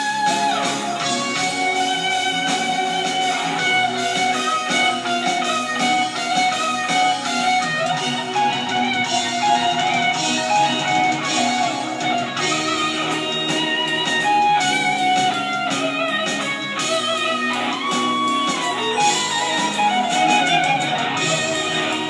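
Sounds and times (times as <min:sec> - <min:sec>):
electric guitar playing: 0:00.0 - 0:22.0.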